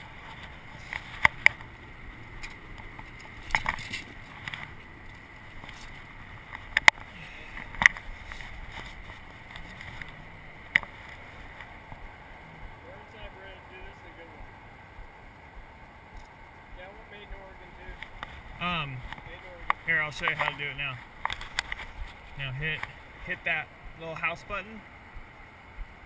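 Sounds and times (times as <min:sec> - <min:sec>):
distant traffic hum: 0:00.0 - 0:26.0.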